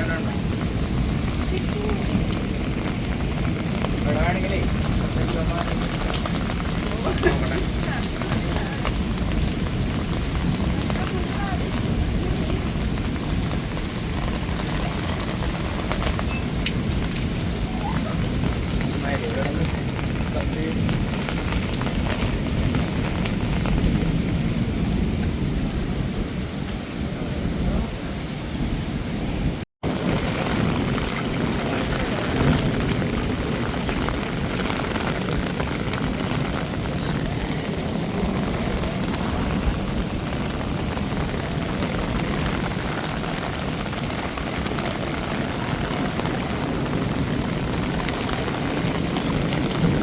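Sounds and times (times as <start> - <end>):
heavy rain on hard surfaces: 0.0 - 50.0.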